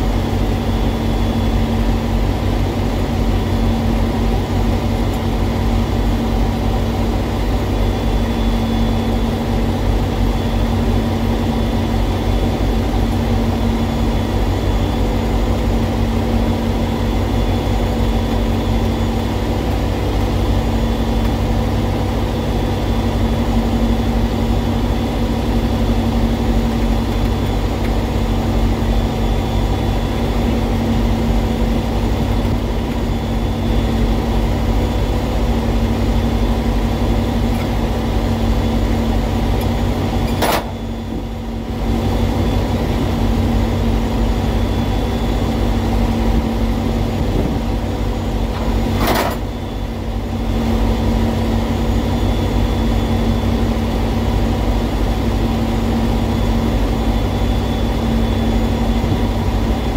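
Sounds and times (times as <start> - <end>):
large engine idling: 0.0 - 59.9.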